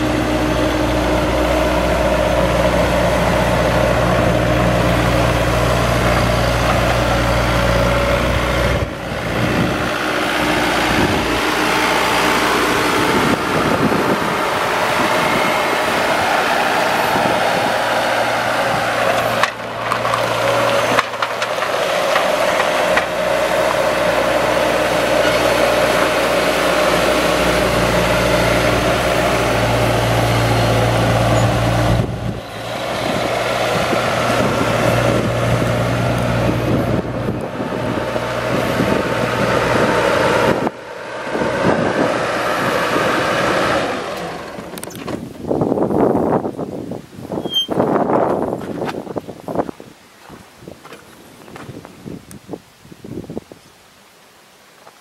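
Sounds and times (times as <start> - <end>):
diesel engine running: 0.0 - 46.6.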